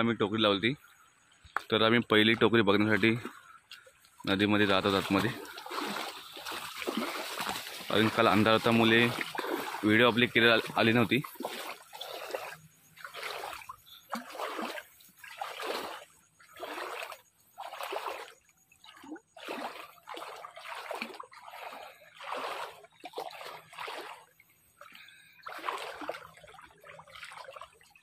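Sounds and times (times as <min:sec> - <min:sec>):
feet wading through shallow water: 0:02.3 - 0:28.0.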